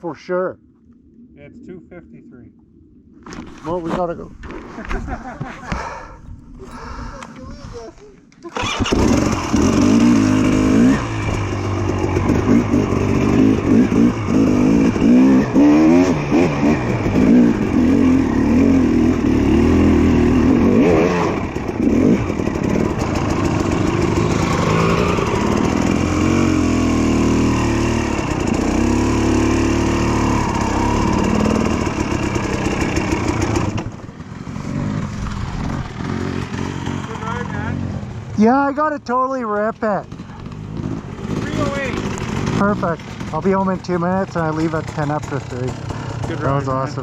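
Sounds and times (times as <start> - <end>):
dirt bike engines revving: 3.3 - 7.9, 8.5 - 47.0.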